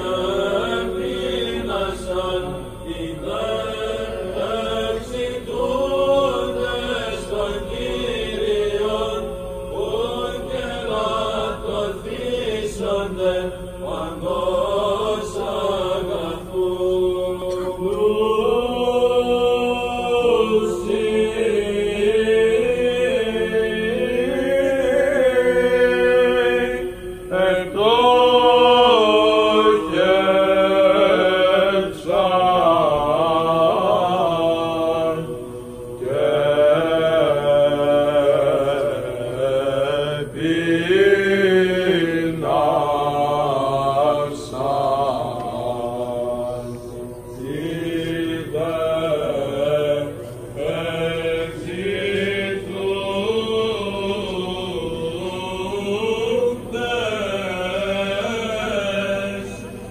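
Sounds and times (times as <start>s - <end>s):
ornamented vocal chant: 0.0s - 59.9s.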